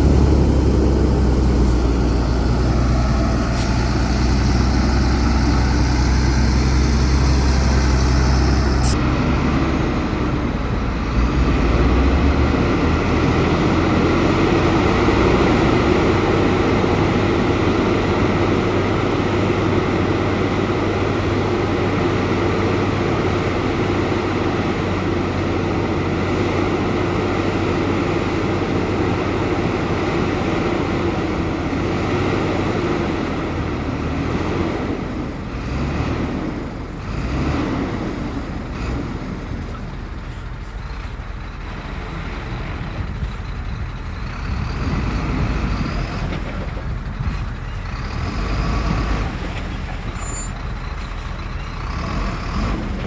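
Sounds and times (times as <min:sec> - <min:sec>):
diesel earthmoving machinery: 0:00.0 - 0:53.0.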